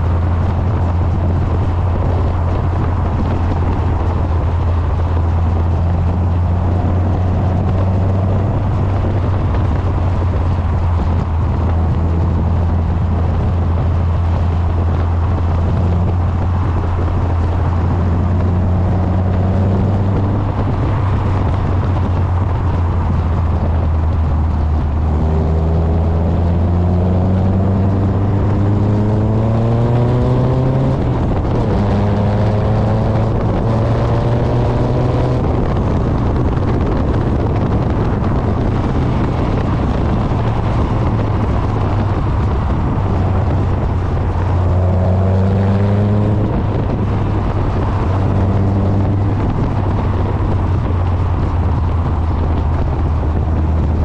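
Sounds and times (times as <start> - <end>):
car exhaust droning: 0.0 - 54.0
wind buffeting microphone: 0.0 - 54.0.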